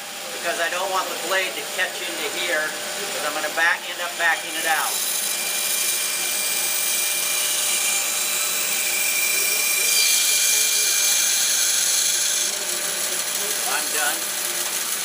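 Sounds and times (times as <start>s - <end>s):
bandsaw cutting wood: 0.0s - 15.0s.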